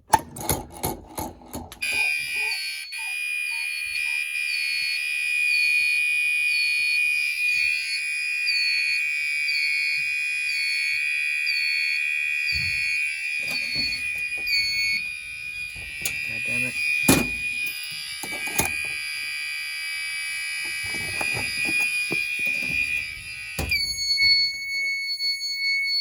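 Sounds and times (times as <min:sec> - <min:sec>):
fire alarm rapid pulsing: 0:01.8 - 0:26.0
steady high-pitched alarm tones: 0:01.8 - 0:26.0.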